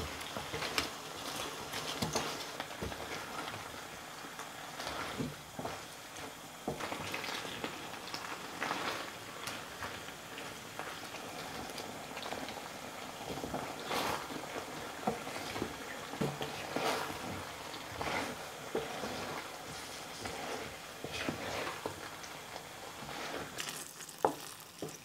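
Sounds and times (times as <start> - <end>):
sauce bubbling and sizzling in pan: 0.0 - 25.0
wooden spatula scraping pan: 4.7 - 25.0.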